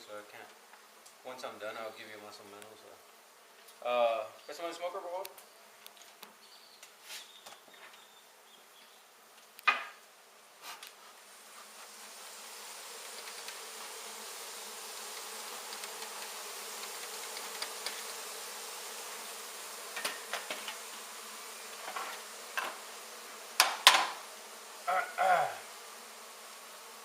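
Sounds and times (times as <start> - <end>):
honey bees buzzing: 0.0 - 27.0.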